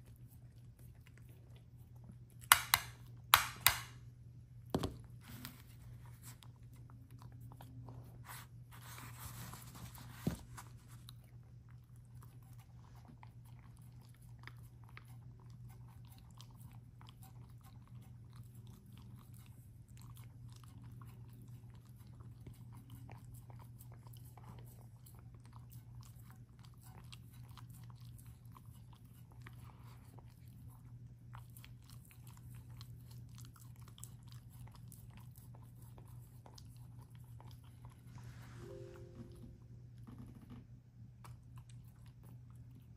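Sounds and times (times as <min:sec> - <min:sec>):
dog chewing food: 0:05.8 - 0:39.4, 0:41.1 - 0:42.9.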